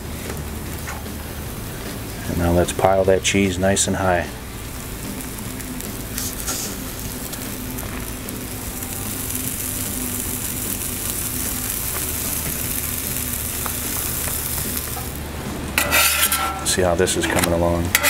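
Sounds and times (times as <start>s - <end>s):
food sizzling on griddle: 0.0s - 18.0s
low steady hum: 0.0s - 18.0s.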